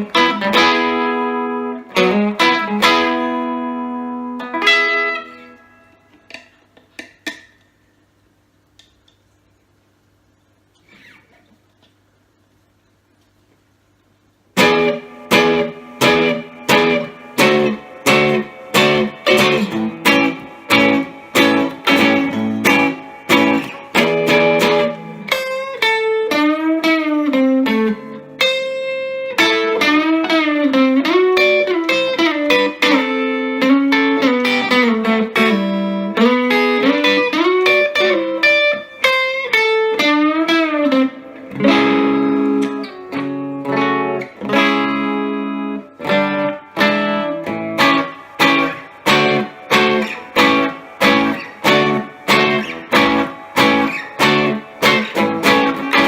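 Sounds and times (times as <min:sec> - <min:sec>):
electric guitar playing: 0:00.0 - 0:07.4, 0:14.5 - 0:56.0.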